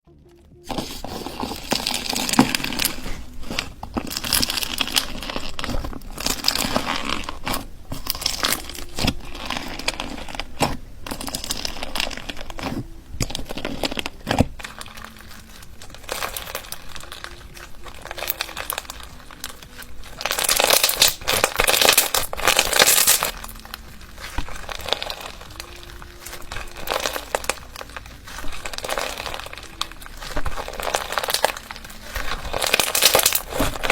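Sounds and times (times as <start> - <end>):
hands squishing slime: 0.6 - 33.9.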